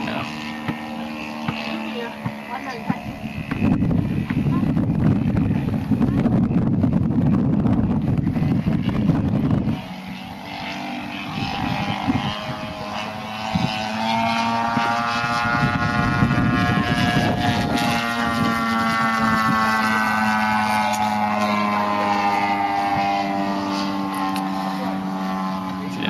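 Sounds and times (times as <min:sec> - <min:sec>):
model airplane engine droning: 0:00.0 - 0:26.0
wind rumbling on microphone: 0:00.0 - 0:26.0.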